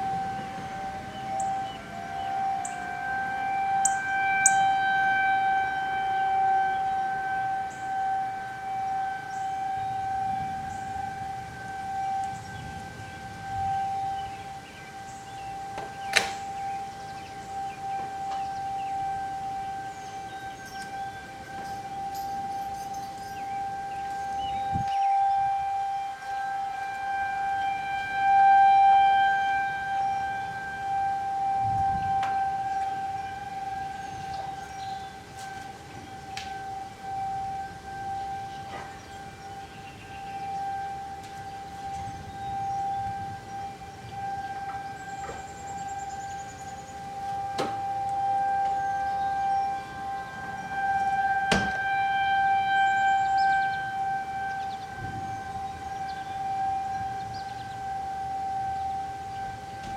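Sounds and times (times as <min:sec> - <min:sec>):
warning sirens wailing: 0:00.0 - 0:59.9.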